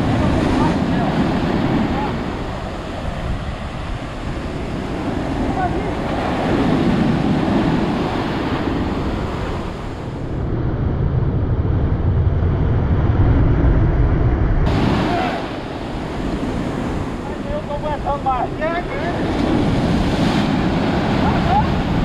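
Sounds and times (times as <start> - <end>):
surf washing onto shore: 0.0 - 10.4, 14.7 - 22.0
wind buffeting microphone: 0.0 - 22.0.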